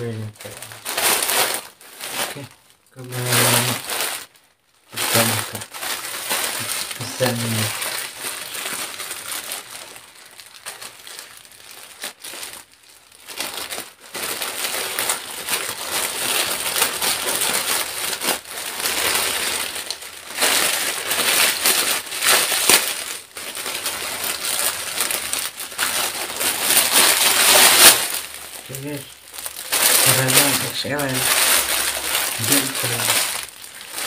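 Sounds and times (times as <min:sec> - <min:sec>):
plastic bag crinkling: 0:00.0 - 0:34.0.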